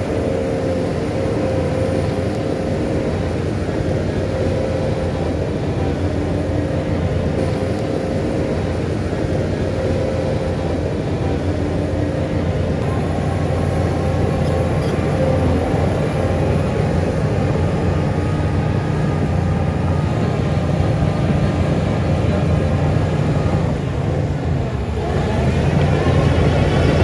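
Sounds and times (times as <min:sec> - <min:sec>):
heavy diesel engine under load: 0:00.0 - 0:27.0.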